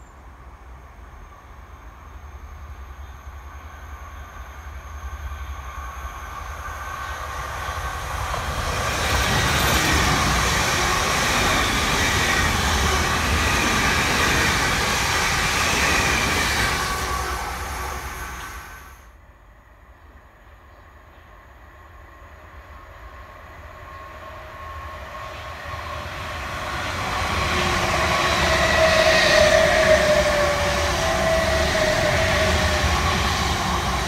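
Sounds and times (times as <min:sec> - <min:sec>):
train passing with whine: 0:00.0 - 0:34.0.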